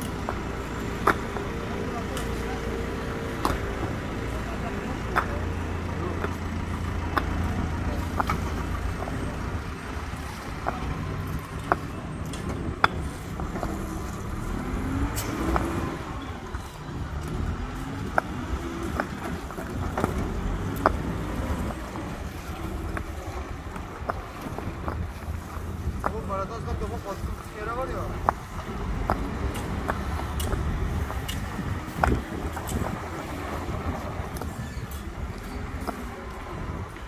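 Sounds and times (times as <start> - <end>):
backhoe diesel engine running: 0.0 - 37.0
paving stones knocking together: 0.0 - 37.0.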